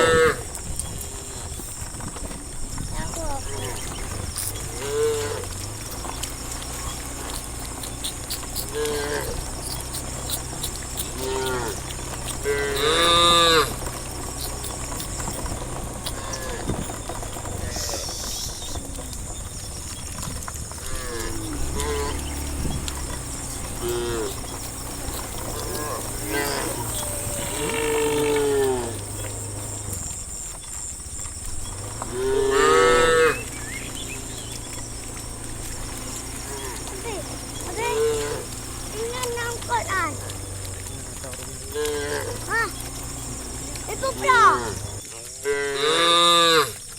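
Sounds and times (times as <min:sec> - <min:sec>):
cows mooing: 0:00.0 - 0:01.8, 0:03.4 - 0:30.8, 0:31.6 - 0:46.9
steady low hum: 0:02.6 - 0:45.0.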